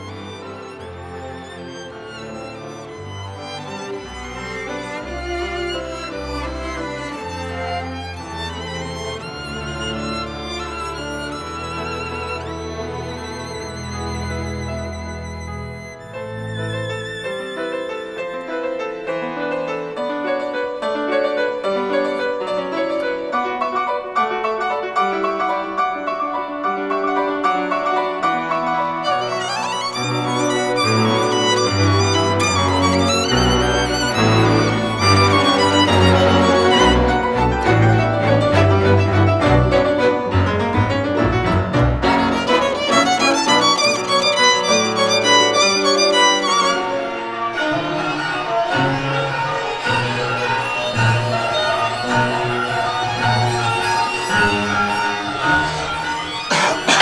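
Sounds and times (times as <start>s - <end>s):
bowed strings: 0.0s - 20.7s, 28.1s - 57.0s
solo piano: 0.0s - 57.0s
violin: 0.0s - 57.0s.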